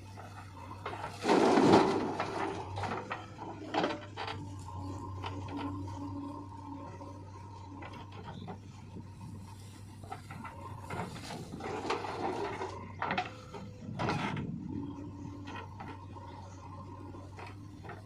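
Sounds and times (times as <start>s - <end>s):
diesel machinery humming: 0.0s - 18.0s.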